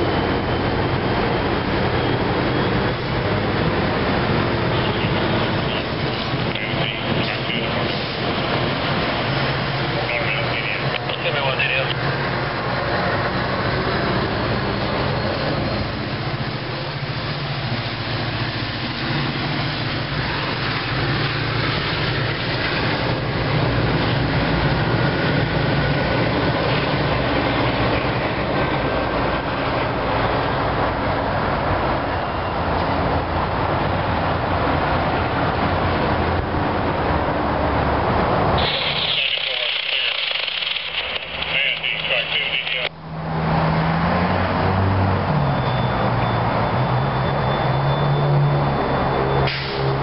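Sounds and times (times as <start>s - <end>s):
diesel engine drone: 0.0s - 50.0s.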